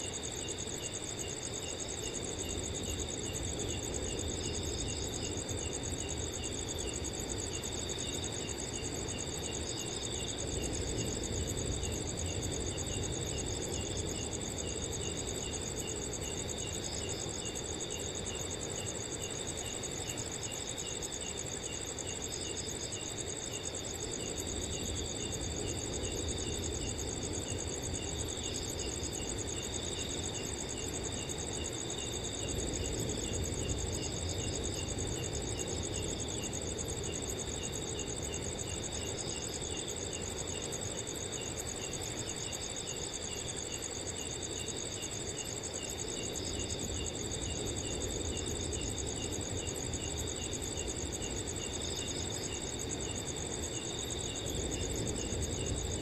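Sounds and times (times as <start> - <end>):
crickets trilling: 0.0 - 56.0
wind rustle: 0.0 - 56.0.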